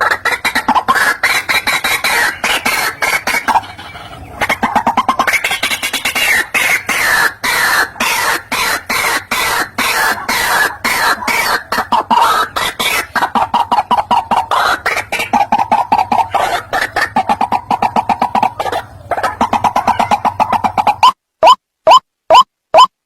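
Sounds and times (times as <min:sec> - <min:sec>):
bird harsh croaking calls: 0:00.0 - 0:22.4.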